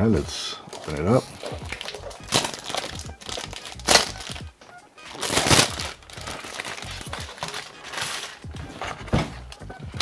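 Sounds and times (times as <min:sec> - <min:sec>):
plastic shrink-wrap crinkling: 0:00.7 - 0:09.7.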